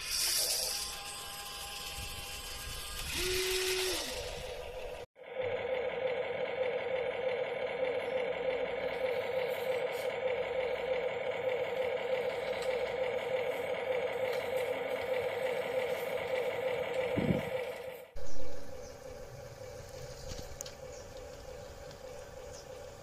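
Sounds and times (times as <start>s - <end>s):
electric motor and gearbox whining: 0.0s - 23.0s.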